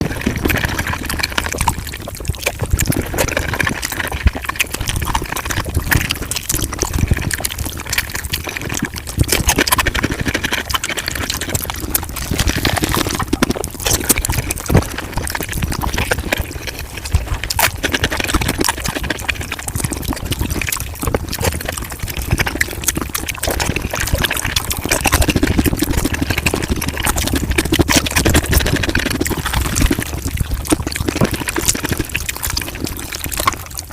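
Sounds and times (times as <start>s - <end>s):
chewing and wet mouth sounds: 0.0s - 33.9s.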